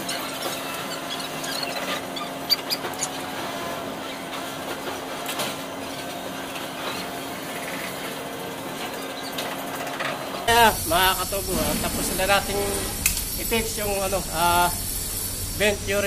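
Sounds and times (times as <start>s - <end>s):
distant traffic and machinery hum: 0.0s - 16.0s.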